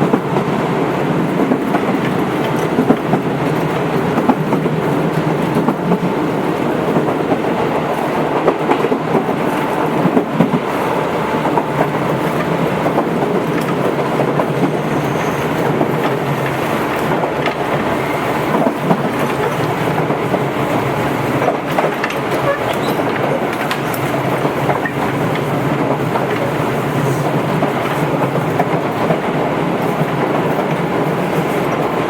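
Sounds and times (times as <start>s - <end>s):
electric train rolling rumble: 0.0s - 32.0s
wheels clicking over rail joints: 1.2s - 32.0s.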